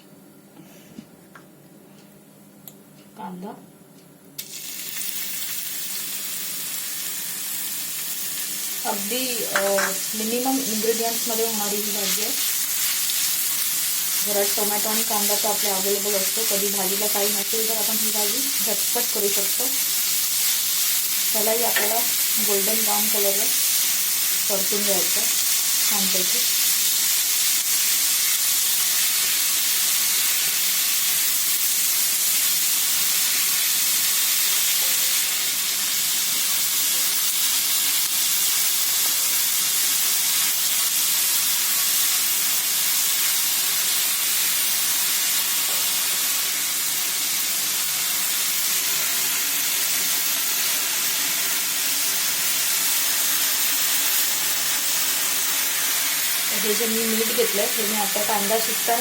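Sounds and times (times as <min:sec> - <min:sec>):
onion sizzling in hot oil: 0:04.4 - 0:59.0.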